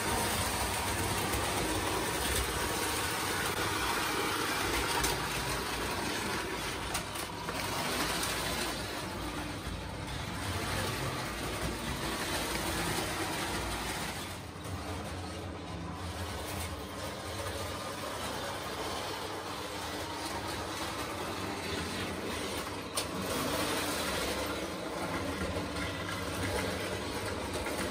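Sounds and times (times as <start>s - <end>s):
toy train whirring on metal track: 0.0s - 27.9s.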